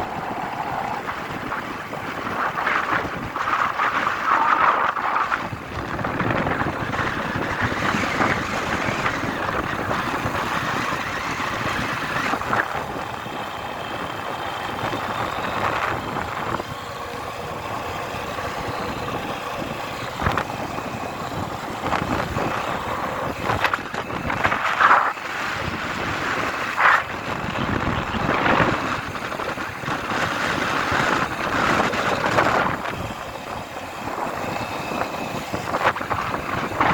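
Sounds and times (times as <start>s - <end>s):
road and vehicle noise: 0.0s - 36.9s
wind rushing over microphone: 0.0s - 36.9s.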